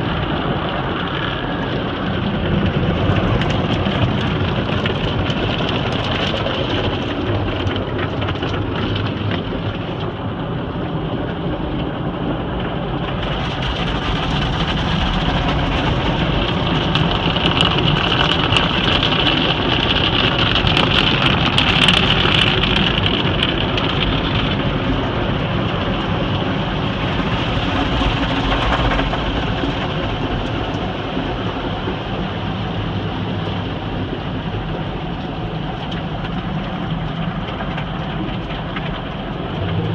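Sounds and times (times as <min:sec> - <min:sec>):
machinery rumble: 0:00.0 - 0:39.9
water jets spraying car: 0:00.0 - 0:39.9.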